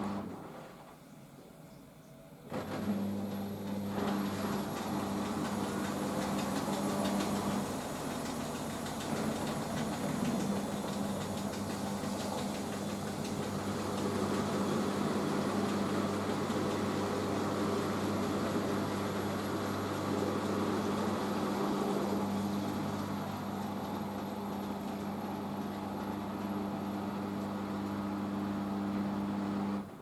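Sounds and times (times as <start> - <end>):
washing machine spinning: 2.4 - 30.0.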